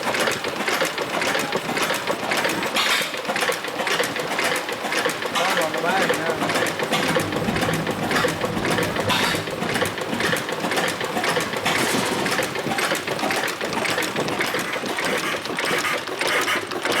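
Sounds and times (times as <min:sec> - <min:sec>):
marine engine clattering: 0:00.0 - 0:15.8.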